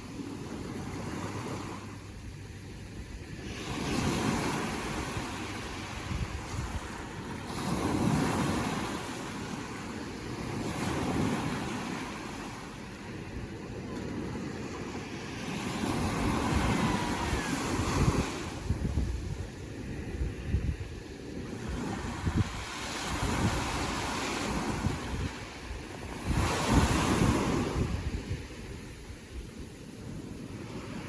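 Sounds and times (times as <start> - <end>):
waves breaking: 0.0 - 31.0
wind rumble on microphone: 0.0 - 31.0.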